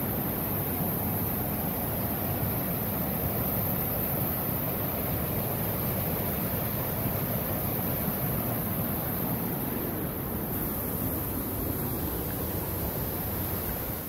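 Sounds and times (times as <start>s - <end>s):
creek rushing over boulders: 0.2s - 14.0s.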